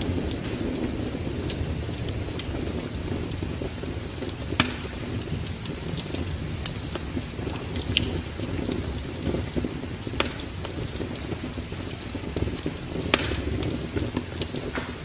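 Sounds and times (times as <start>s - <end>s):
low fire rumble: 0.0s - 15.0s
sharp pops of fire: 0.0s - 15.0s
wood fire crackling: 0.0s - 15.0s.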